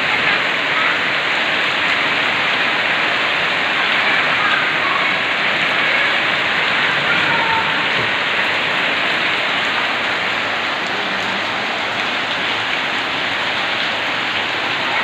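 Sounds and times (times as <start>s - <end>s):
heavy rain on flooded street: 0.0s - 15.0s.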